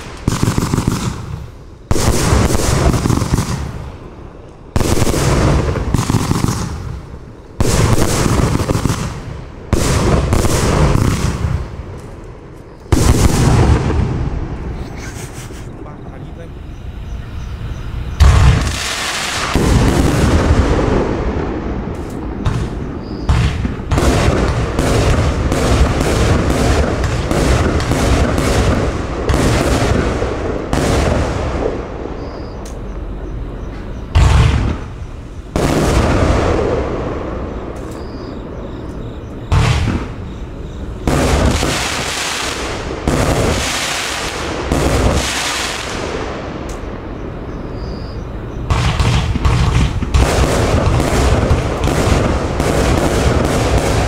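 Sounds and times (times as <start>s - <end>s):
loud fireworks bang: 0.0s - 4.1s, 4.7s - 12.1s, 12.9s - 15.2s, 18.1s - 32.6s, 33.7s - 54.0s
fireworks launches and bursts: 0.0s - 16.3s, 18.1s - 32.8s, 34.0s - 54.0s.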